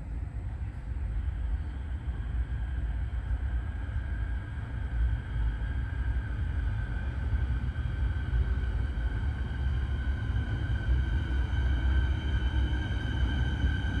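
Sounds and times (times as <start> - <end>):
electric train rumble: 0.0 - 14.0
high train whine: 0.0 - 14.0.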